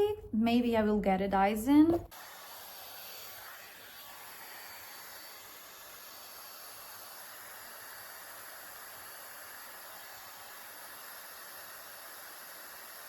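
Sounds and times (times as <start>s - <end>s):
hair styler fan air hiss: 2.0s - 13.0s.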